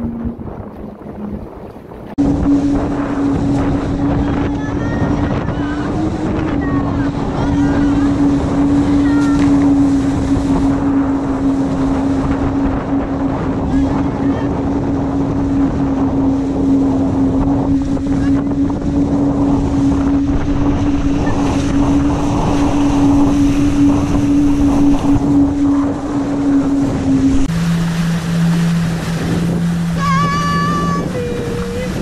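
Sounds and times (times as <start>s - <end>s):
steady hum: 0.0s - 32.0s
water rushing past hull: 0.0s - 32.0s
wind on microphone: 0.0s - 32.0s.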